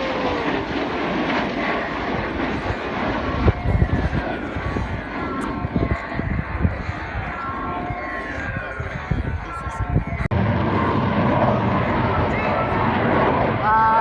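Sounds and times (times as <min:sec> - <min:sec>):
jet aircraft roaring past: 0:00.0 - 0:14.0.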